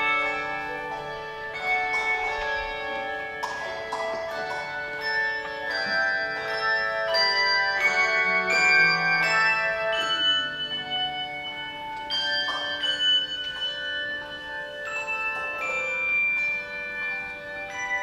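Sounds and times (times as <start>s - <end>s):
bells playing a slow melody: 0.0s - 18.0s.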